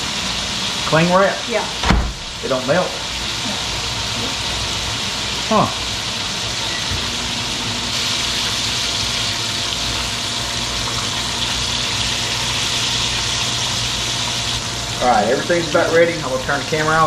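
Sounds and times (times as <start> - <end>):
fish frying in hot oil: 0.0 - 17.0.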